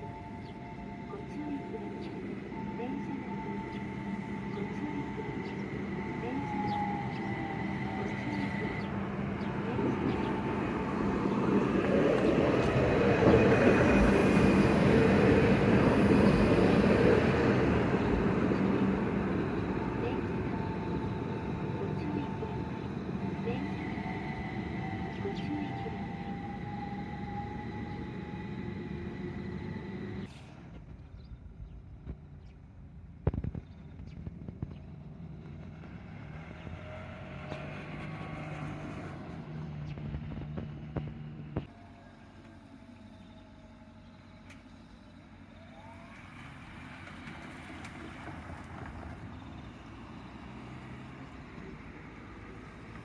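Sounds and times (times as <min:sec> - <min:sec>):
tram rumbling on rails: 0:00.0 - 0:53.0.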